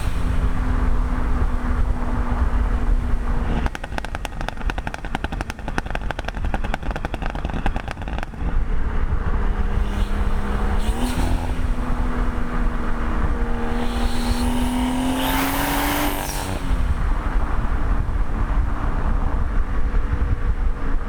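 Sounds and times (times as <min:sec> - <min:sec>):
car engine revving: 0:00.0 - 0:21.0
exhaust crackling and popping: 0:00.0 - 0:21.0.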